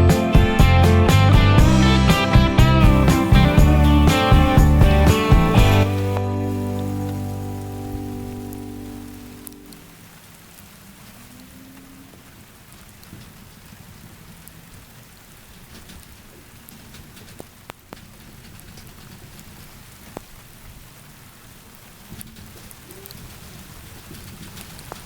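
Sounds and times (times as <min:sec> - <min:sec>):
rain pattering on surfaces: 0:01.7 - 0:25.0.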